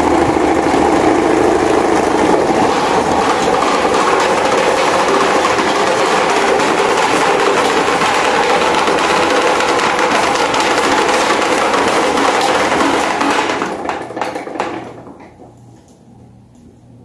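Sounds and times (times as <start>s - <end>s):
electric fans whirring: 0.0s - 17.0s.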